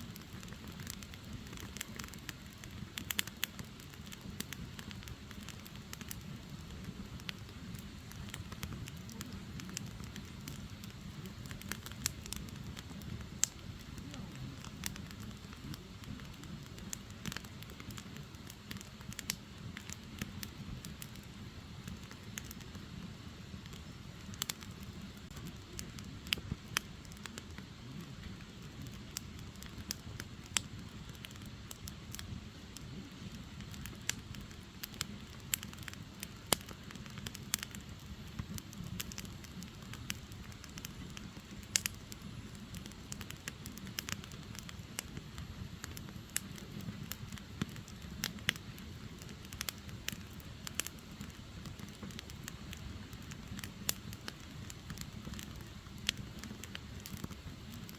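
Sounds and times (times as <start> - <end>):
firewood crackling and popping: 0.0 - 57.9
flame rushing: 0.0 - 57.9.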